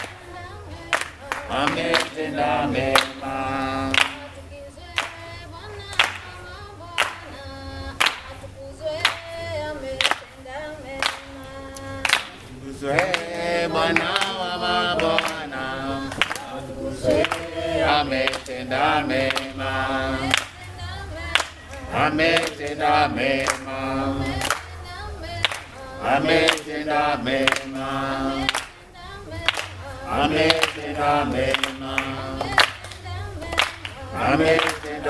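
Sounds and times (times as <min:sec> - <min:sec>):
congregation singing: 0:00.0 - 0:35.0
people clapping along: 0:00.0 - 0:35.0.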